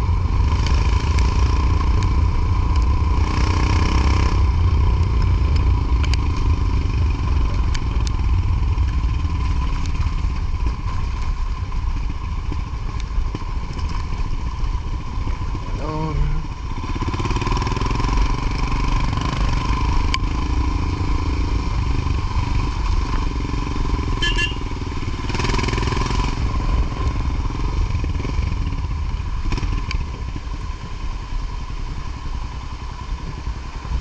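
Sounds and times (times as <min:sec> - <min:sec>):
motorcycle engine rumbling: 0:00.0 - 0:34.0.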